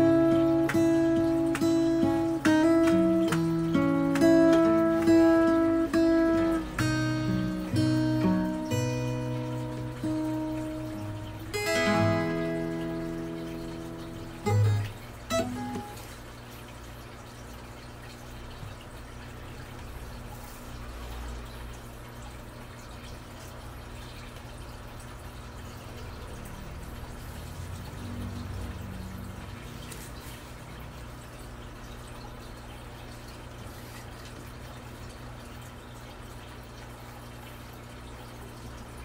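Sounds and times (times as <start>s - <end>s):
constant hiss: 0.0s - 35.6s.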